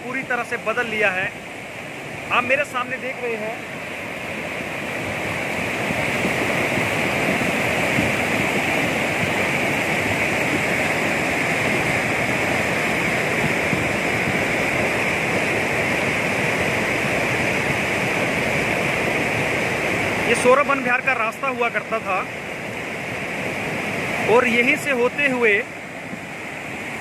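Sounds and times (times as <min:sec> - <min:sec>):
river rushing over boulders: 0:00.0 - 0:27.0.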